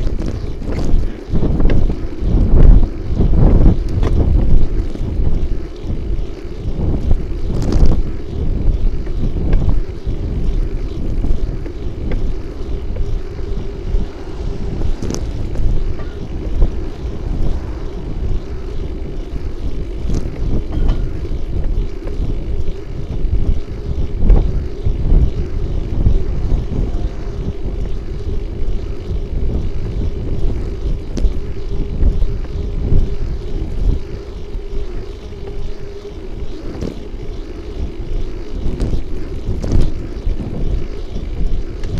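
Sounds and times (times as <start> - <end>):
steady hum: 0.0 - 41.9
wind buffeting microphone: 0.0 - 41.9.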